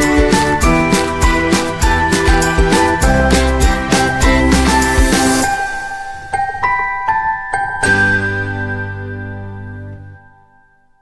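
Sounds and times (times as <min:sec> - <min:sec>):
music with steady beat: 0:00.0 - 0:09.9
bright tinkling notes: 0:00.0 - 0:11.0.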